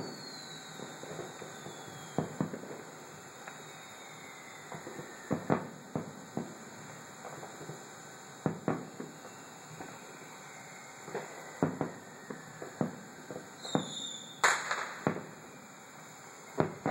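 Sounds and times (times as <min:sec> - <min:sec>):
distant fireworks bangs: 0:00.0 - 0:10.2, 0:11.0 - 0:15.6, 0:16.4 - 0:16.9
fireworks crackle: 0:00.0 - 0:16.9
high firework whistle: 0:00.0 - 0:16.9.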